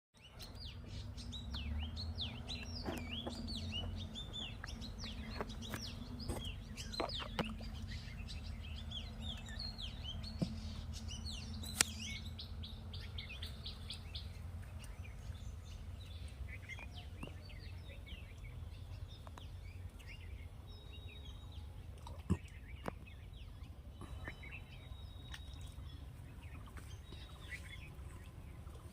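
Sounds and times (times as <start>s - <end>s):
small birds chirping: 0.2s - 28.9s
steady low rumble: 0.4s - 28.9s.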